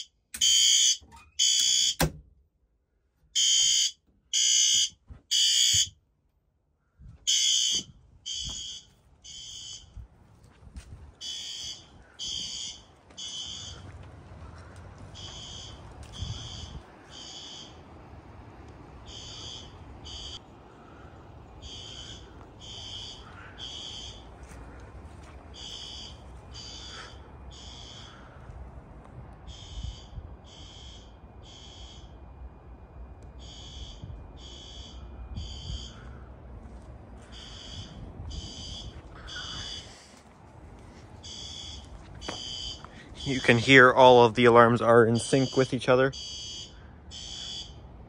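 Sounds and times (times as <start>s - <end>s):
fire alarm horn blasts: 0.0s - 2.2s, 3.3s - 6.0s, 7.2s - 10.0s, 11.2s - 14.0s, 15.0s - 28.2s, 29.2s - 40.0s, 40.9s - 48.0s
low wind rumble: 6.0s - 48.0s.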